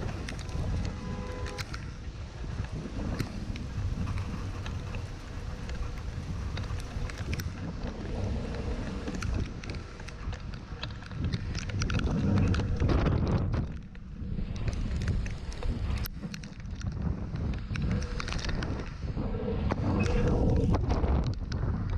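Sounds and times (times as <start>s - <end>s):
small clicks: 0.0s - 21.9s
wind buffeting microphone: 0.0s - 21.9s.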